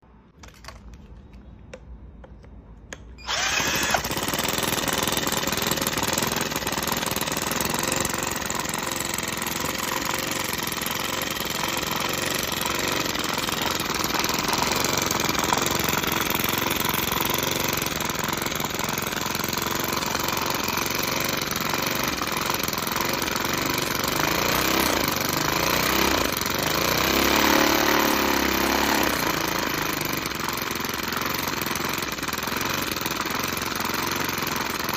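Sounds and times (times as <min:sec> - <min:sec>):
model steam engine rattling: 0:03.3 - 0:27.1, 0:29.1 - 0:34.9.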